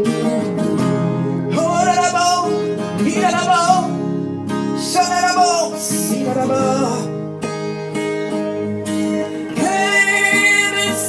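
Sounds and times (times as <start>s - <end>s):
acoustic guitar accompaniment: 0.0s - 11.0s.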